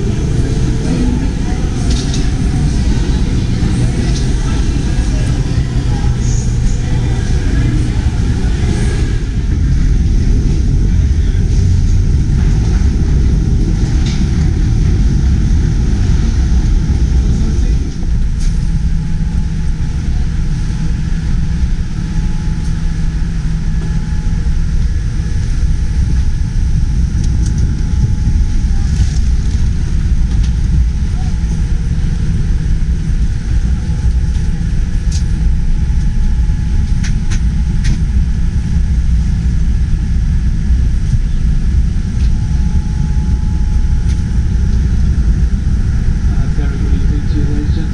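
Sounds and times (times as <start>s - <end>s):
low hum: 0.0s - 47.9s
vehicle engine rumble: 0.0s - 47.9s.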